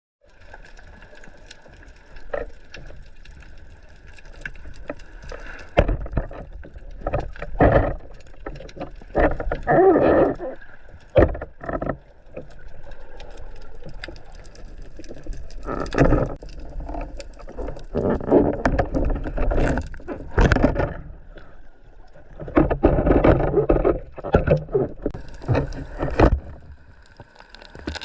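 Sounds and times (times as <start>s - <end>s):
faint underwater crackle of clicks: 0.2s - 28.0s
water splashing and bubbling bursts: 0.2s - 28.0s.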